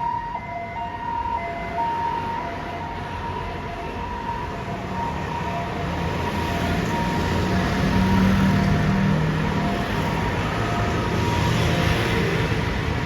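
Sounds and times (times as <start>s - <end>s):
ambulance two-tone siren: 0.0s - 13.0s.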